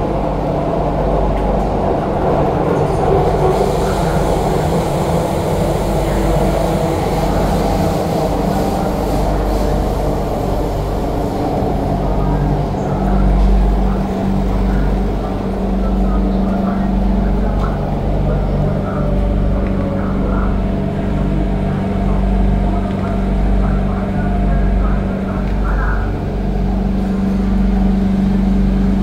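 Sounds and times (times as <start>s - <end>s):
train wheels rumbling: 0.0s - 29.0s.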